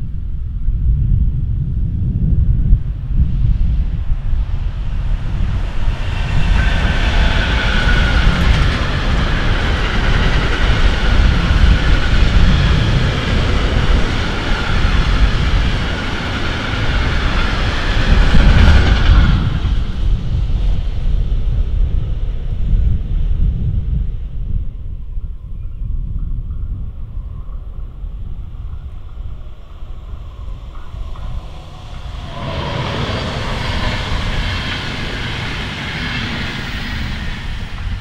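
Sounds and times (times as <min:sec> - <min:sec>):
freight train wheels on rails: 0:03.3 - 0:38.0.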